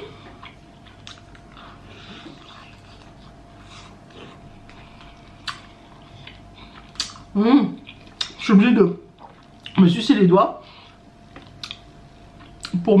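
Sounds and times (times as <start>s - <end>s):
person chewing meat: 0.0s - 8.4s, 10.7s - 12.8s.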